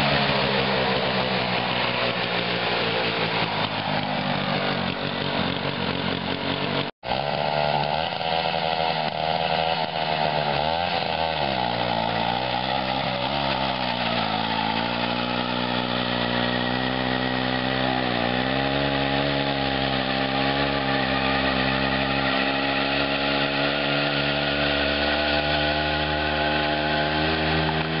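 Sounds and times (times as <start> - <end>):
two-stroke engine running unevenly: 0.0 - 28.0.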